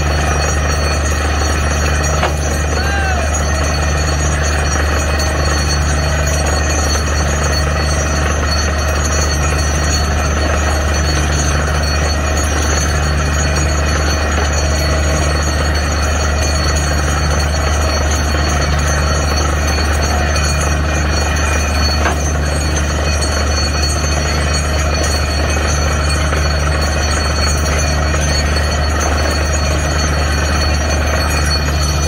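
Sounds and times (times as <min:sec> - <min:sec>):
drilling rig low drone: 0:00.0 - 0:32.0.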